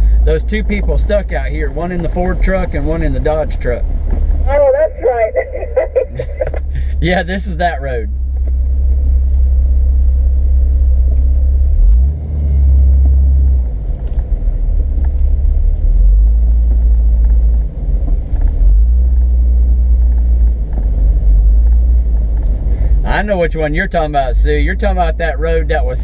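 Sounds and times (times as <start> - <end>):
off-road vehicle rumbling: 0.0 - 26.0.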